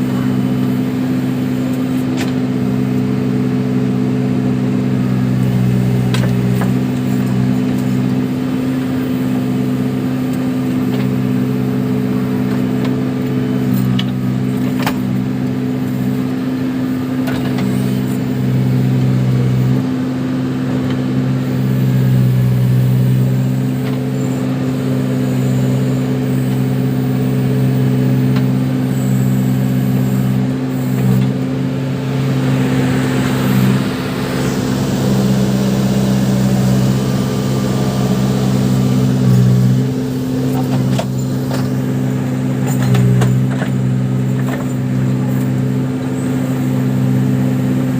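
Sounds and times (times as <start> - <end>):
diesel engine running under load: 0.0 - 47.9.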